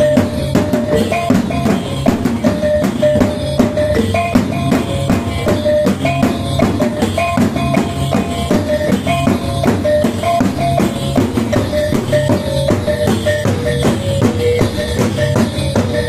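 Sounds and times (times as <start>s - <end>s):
hand drum beating: 0.0s - 16.0s.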